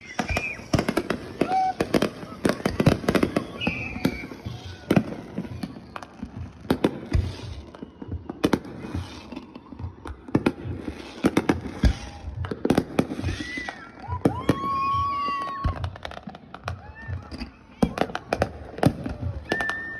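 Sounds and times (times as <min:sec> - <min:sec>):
fireworks bangs and pops: 0:00.0 - 0:19.9
fireworks crackling: 0:00.0 - 0:19.9.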